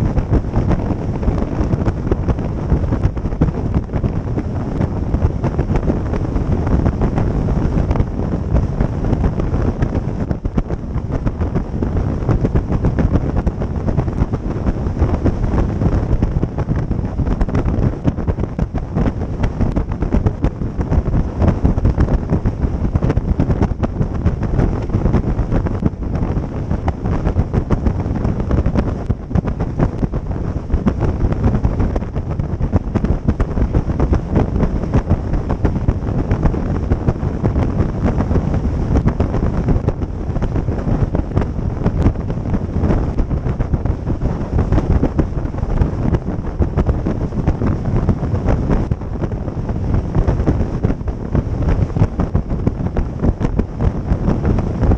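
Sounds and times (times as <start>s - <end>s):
motorboat engine running: 0.0s - 54.9s
wind buffeting microphone: 0.0s - 54.9s.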